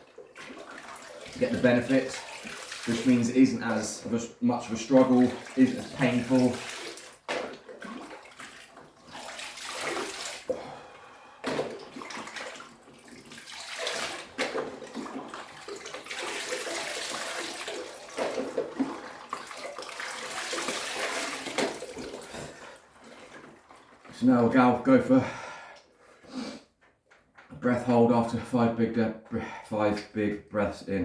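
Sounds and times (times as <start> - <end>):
water splashing: 0.0 - 24.8.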